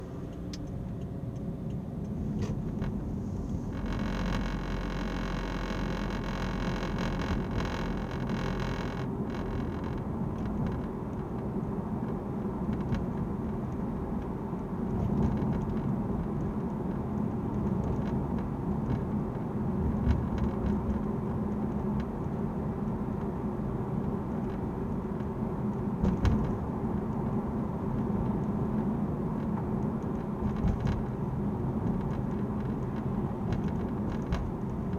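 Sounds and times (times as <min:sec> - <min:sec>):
car cabin road noise: 0:00.0 - 0:34.9.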